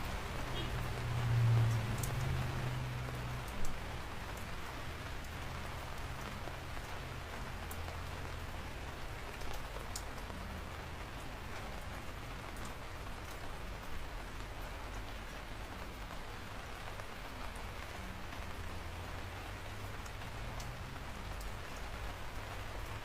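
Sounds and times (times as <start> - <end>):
raindrops ticking: 0.0 - 23.0
steady rain: 0.0 - 23.0.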